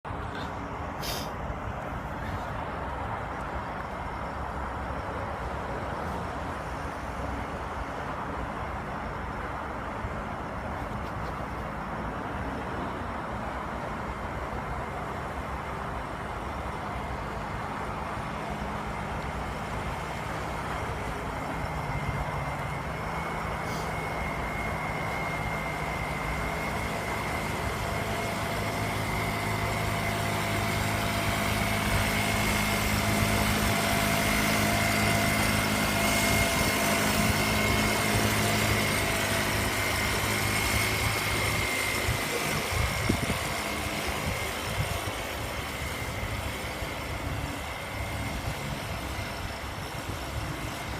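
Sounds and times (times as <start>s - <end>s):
boat engine humming and whining: 0.0s - 50.9s.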